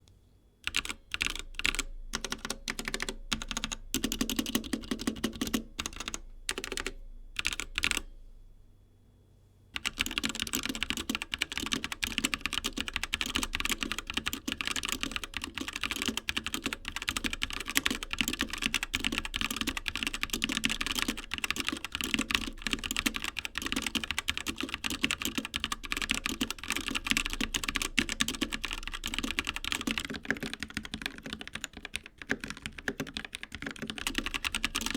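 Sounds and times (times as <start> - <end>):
mechanical keyboard typing: 0.6 - 8.1, 9.8 - 34.9.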